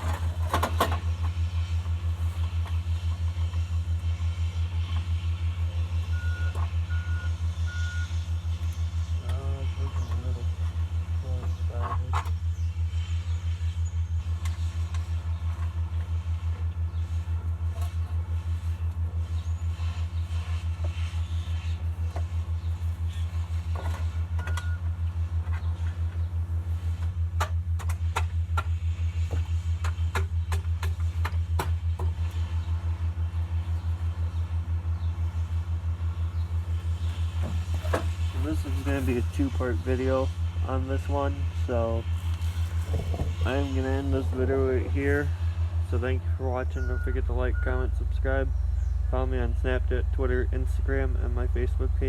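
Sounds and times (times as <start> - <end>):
low machine hum pulsing: 0.0 - 52.0.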